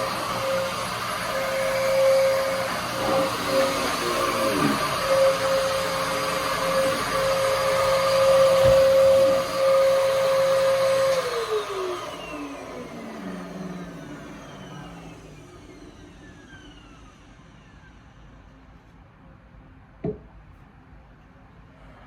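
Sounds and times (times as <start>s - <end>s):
vacuum cleaner motor spinning down: 0.0s - 18.5s.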